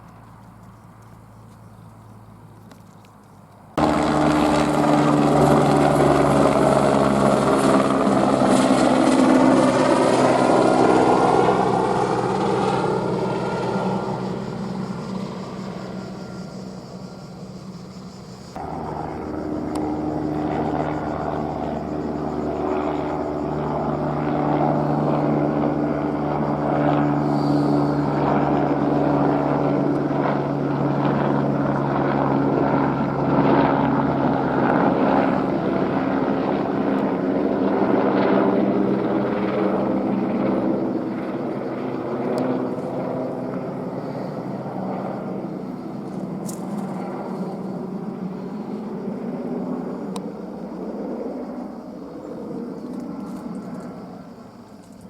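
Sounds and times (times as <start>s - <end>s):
helicopter rotor and turbine drone: 0.0s - 55.0s.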